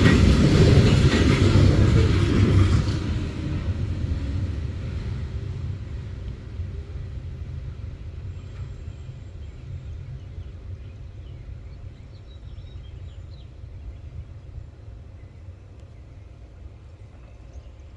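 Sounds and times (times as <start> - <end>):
freight train rumbling by: 0.0 - 17.9.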